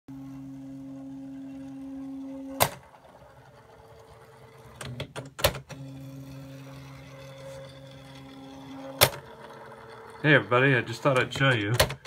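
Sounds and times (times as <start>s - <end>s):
typewriter motor hum: 0.1s - 12.0s.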